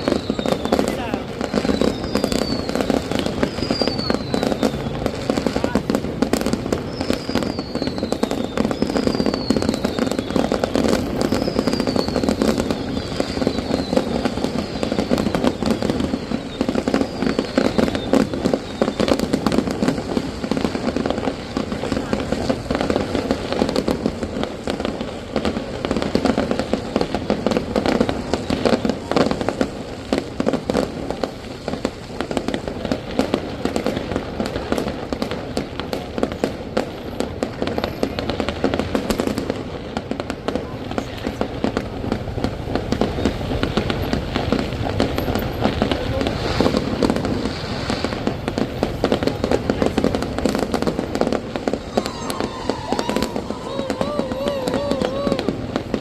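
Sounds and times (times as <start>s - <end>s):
falling firework whistles: 0.0s - 33.3s, 40.9s - 56.0s
crowd chatter: 0.0s - 56.0s
fireworks bangs and crackling: 0.0s - 56.0s.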